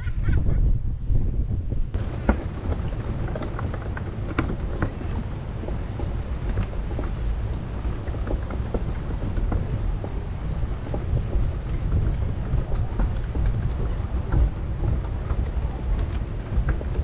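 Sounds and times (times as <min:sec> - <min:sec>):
wind on microphone: 0:00.0 - 0:17.0
mobility scooter rumbling on wood: 0:01.6 - 0:17.0
tyres clicking on planks: 0:02.0 - 0:17.0.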